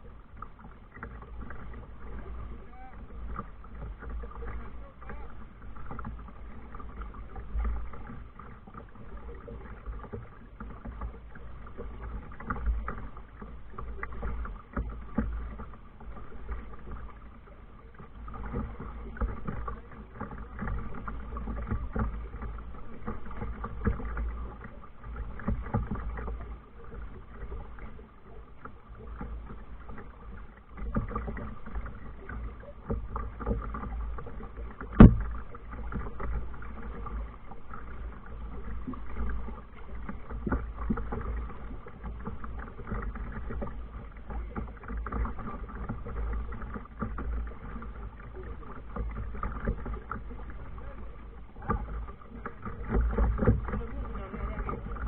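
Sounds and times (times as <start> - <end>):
water washing against kayak: 0.0 - 55.0
wind rumble on microphone: 0.0 - 55.0.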